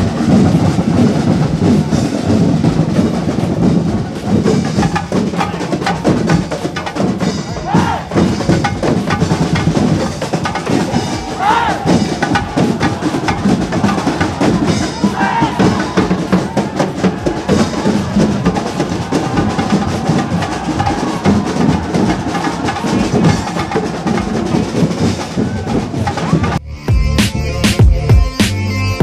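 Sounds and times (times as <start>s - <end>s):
street drum band playing: 0.0s - 28.6s
music with heavy beat: 0.0s - 29.0s.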